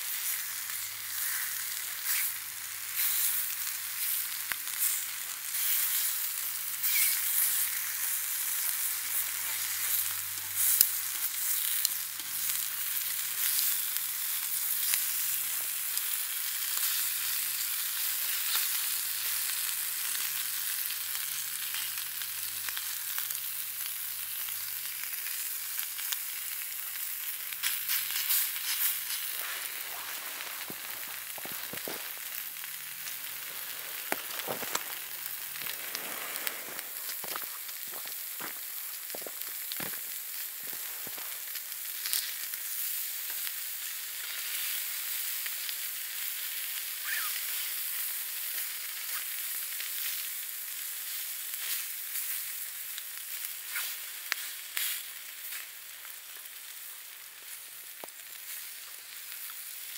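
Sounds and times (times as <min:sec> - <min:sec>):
bacon sizzling in a frying pan: 0:00.0 - 0:59.9.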